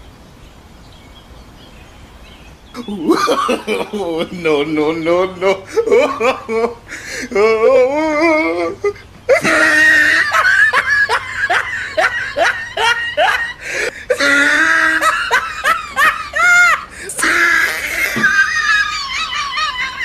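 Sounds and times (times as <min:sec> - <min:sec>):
loud laughter in rapid bursts: 0:02.8 - 0:20.0.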